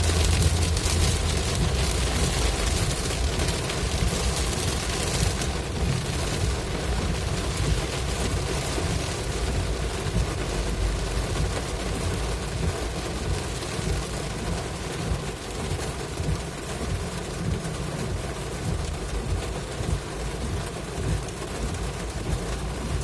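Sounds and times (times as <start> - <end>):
rain on wet road: 0.0 - 23.0
vehicle rumble: 0.0 - 23.0.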